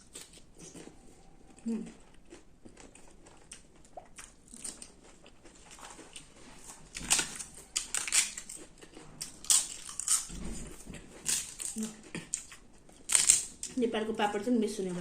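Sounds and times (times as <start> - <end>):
crunchy chewing and bites: 0.0 - 13.8.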